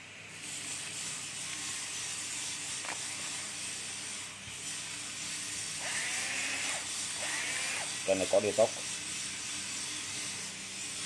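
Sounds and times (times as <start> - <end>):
drill motor whirring: 0.4 - 11.0.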